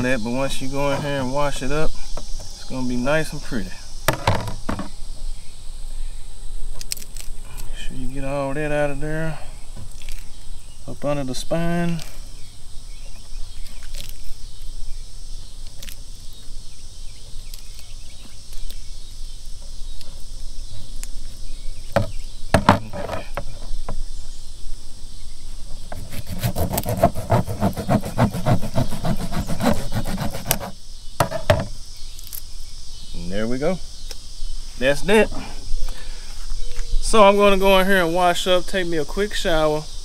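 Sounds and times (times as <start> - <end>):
insects droning: 0.0 - 40.0.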